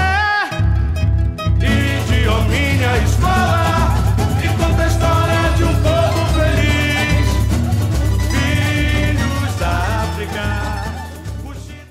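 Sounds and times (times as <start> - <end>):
samba music: 0.0 - 11.9.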